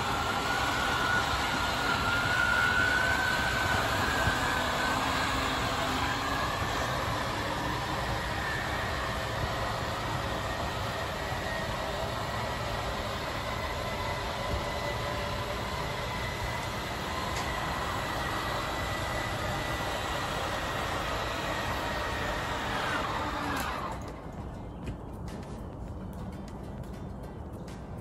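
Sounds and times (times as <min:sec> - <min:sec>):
electric motor and gears running: 0:00.0 - 0:27.9
faint motor whine: 0:00.0 - 0:28.0.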